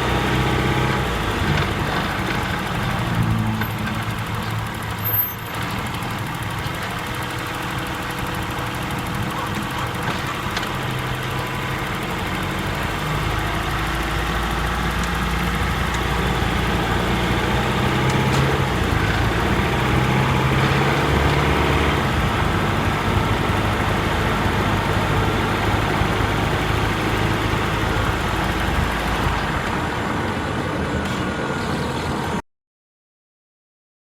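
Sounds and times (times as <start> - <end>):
car engine running while driving: 0.0 - 32.4.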